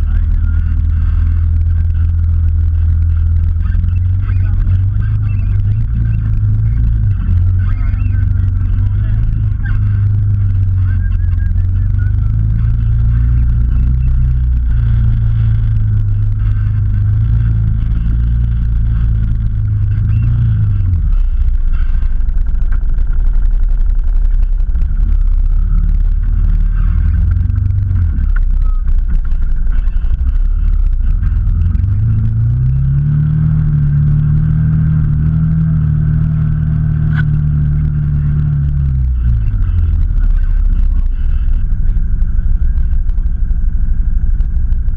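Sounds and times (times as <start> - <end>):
off-road vehicle engine running: 0.0 - 44.9.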